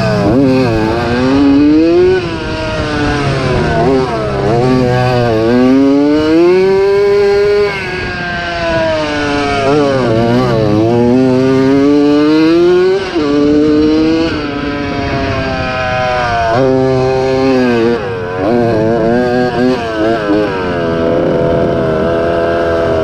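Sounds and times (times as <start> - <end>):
motocross engine revving hard: 0.0 - 23.0.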